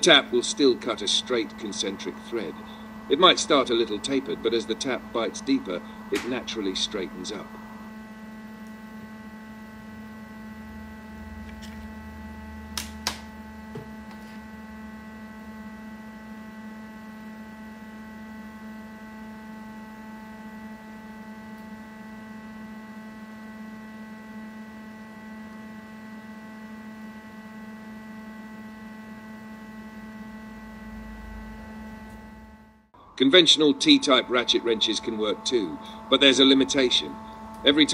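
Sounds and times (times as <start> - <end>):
electrical hum: 0.0 - 37.9.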